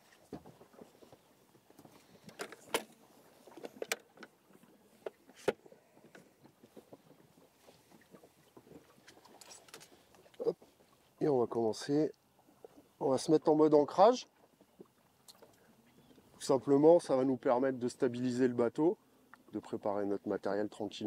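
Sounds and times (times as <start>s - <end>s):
water lapping against hull: 0.0s - 21.0s.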